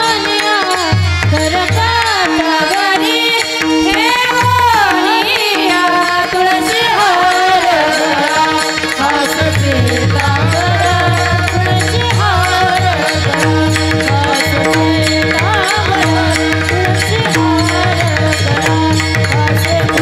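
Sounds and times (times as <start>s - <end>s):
harmonium drone: 0.0s - 20.0s
voices singing devotional melody: 0.0s - 20.0s.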